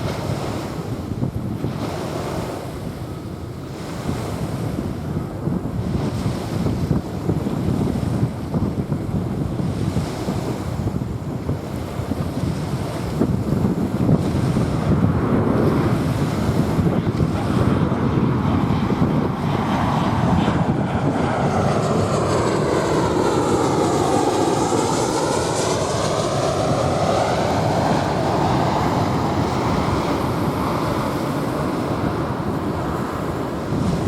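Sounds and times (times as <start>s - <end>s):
jet airliner passing overhead: 0.0s - 34.0s
waves washing on sand: 0.0s - 34.0s
wind on microphone: 0.0s - 34.0s.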